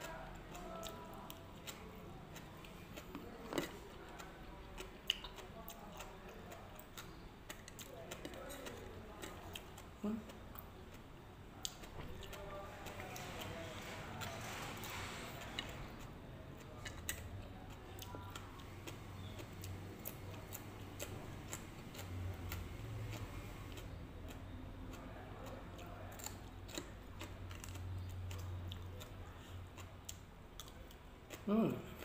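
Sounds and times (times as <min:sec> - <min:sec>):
crunchy chewing: 0:00.0 - 0:32.0.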